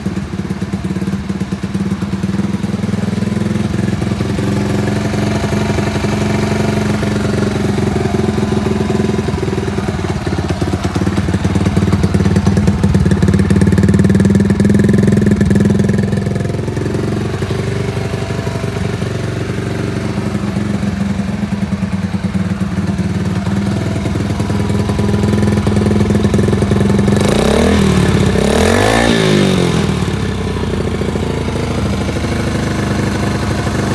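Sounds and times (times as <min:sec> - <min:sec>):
small engine idling: 0:00.0 - 0:33.9
engine revving: 0:00.7 - 0:33.9.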